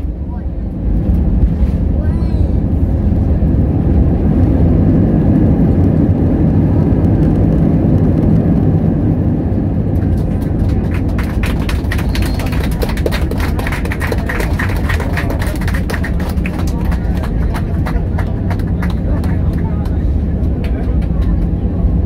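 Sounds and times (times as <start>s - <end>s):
low rumble of engines and wheels: 0.0s - 22.0s.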